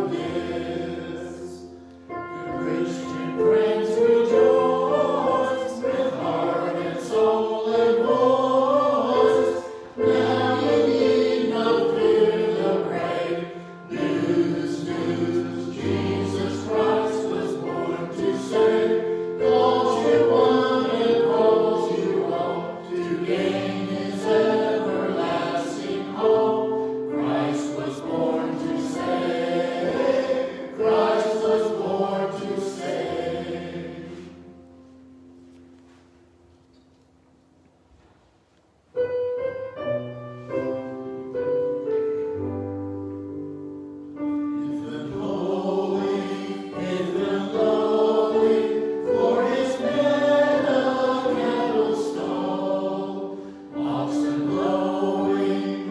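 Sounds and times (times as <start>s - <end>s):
choir singing a hymn: 0.0s - 35.2s, 40.4s - 55.9s.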